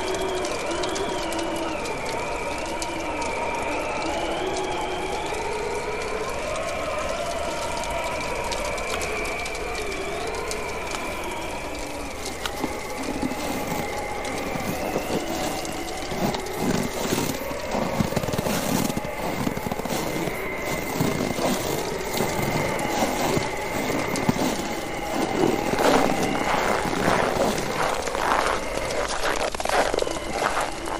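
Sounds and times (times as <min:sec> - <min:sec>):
bonfire crackling and popping: 0:00.0 - 0:30.9
whistling howl of wind: 0:00.0 - 0:30.9.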